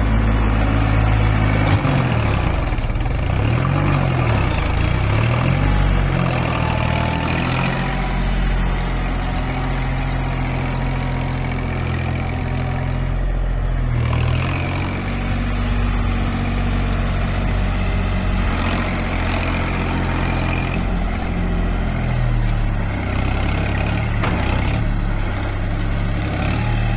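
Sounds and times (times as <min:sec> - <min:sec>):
tractor engine idling: 0:00.0 - 0:26.9.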